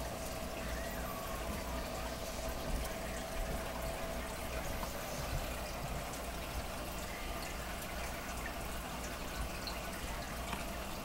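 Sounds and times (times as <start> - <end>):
aquarium water trickling and bubbling: 0.0 - 11.0.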